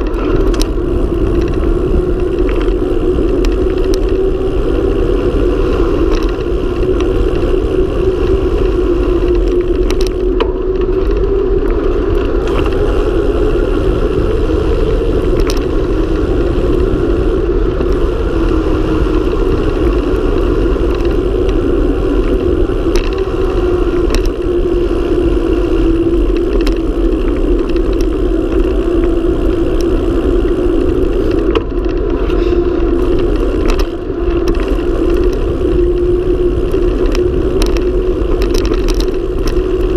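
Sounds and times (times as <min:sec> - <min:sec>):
light clicks from bumps: 0:00.0 - 0:39.9
tyres humming on asphalt: 0:00.0 - 0:39.9
wind rushing over microphone: 0:00.0 - 0:39.9.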